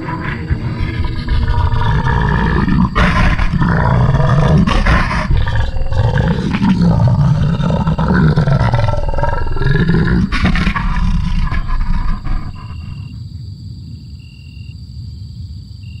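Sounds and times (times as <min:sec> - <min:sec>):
monster roars and growls: 0:00.0 - 0:13.1.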